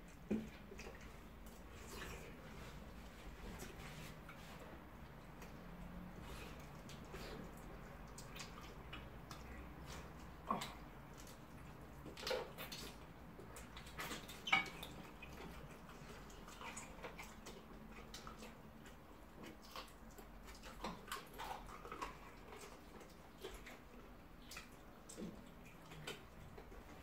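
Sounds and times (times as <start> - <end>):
chewing and lip-smacking: 0.0 - 27.0.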